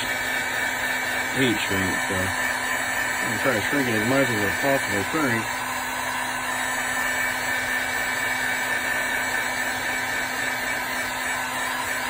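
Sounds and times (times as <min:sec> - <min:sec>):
heat gun motor hum: 0:00.0 - 0:12.0
rush of hot air: 0:00.0 - 0:12.0.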